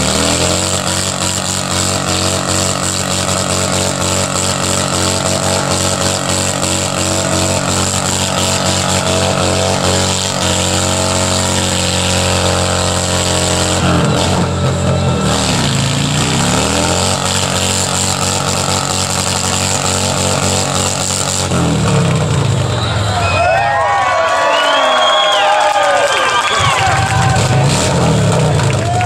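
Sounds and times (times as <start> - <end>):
motorcycle engine at high revs: 0.0 - 23.1, 26.8 - 29.0.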